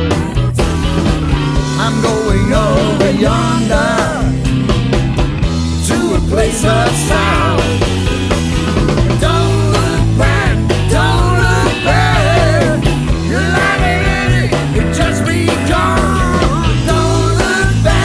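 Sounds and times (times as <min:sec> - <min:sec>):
rock band music: 0:00.0 - 0:18.0.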